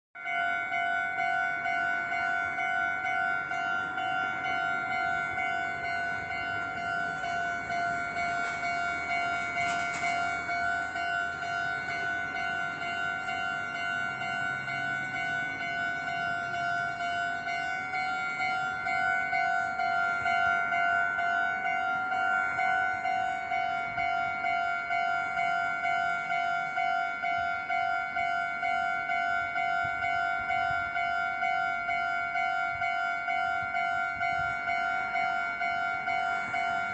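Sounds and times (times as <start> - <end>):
level crossing warning bell: 0.2 - 36.9.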